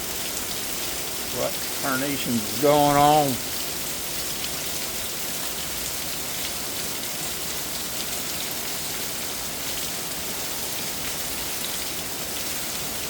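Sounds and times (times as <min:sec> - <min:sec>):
heavy rain hammering down: 0:00.0 - 0:13.0.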